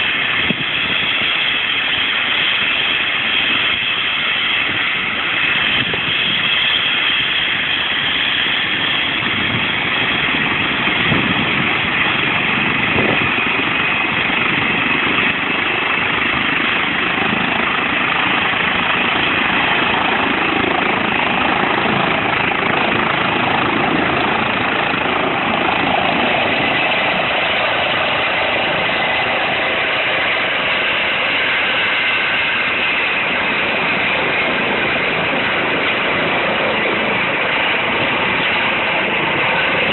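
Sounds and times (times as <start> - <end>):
helicopter turbines and rotor: 0.0 - 39.9.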